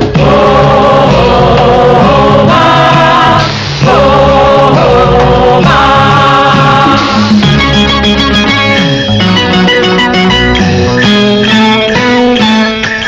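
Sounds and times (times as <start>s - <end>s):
chorus singing held notes: 0.0s - 12.6s
instrumental backing: 0.0s - 13.0s.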